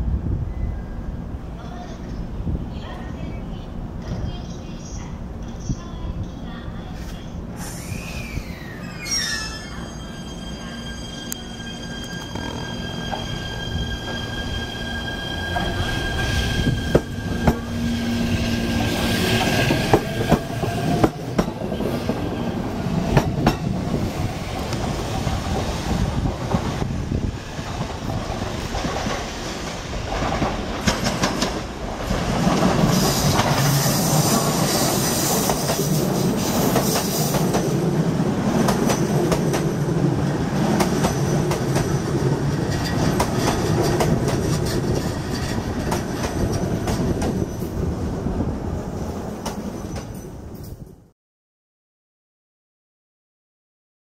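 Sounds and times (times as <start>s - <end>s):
electric train running on rails: 0.0s - 51.0s.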